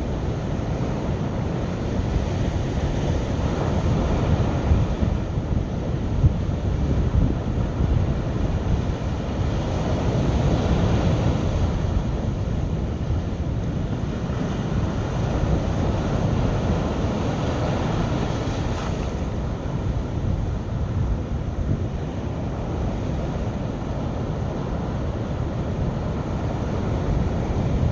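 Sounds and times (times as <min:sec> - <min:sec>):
sea surf washing on beach: 0:00.0 - 0:27.9
wind buffeting microphone: 0:00.0 - 0:27.9.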